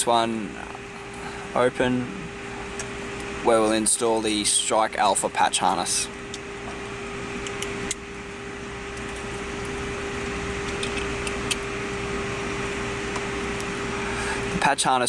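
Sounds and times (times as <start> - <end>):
whirring hum: 0.0 - 15.0.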